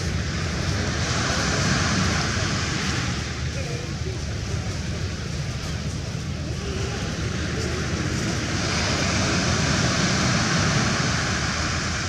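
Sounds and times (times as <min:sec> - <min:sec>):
boat engines rumbling: 0:00.0 - 0:12.0
wind and water hiss: 0:00.0 - 0:12.0.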